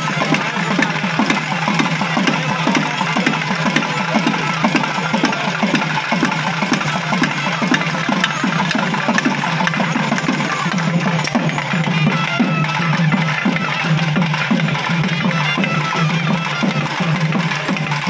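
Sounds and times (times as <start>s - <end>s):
drums playing fast rhythm: 0.0s - 18.0s.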